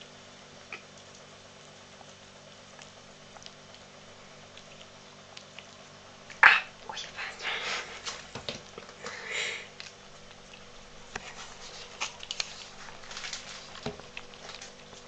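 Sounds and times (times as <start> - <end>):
kitten licking fingers: 2.8 - 14.8.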